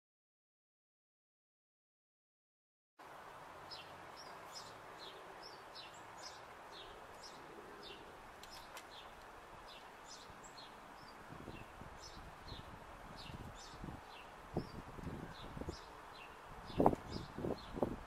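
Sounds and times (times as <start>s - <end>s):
outdoor background hiss: 3.0s - 18.0s
small birds chirping faintly: 3.0s - 18.0s.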